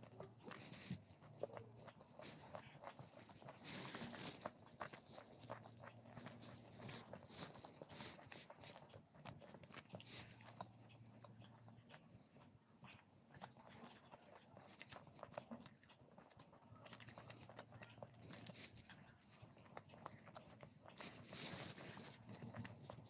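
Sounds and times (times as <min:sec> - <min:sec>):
faint low hum: 0:00.0 - 0:23.0
person chewing food: 0:00.0 - 0:23.0.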